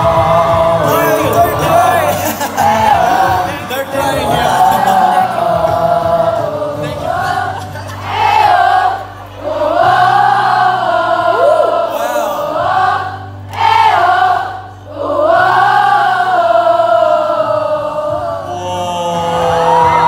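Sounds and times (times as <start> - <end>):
backing track music: 0.0 - 20.0
crowd singing slow melody: 0.0 - 20.0.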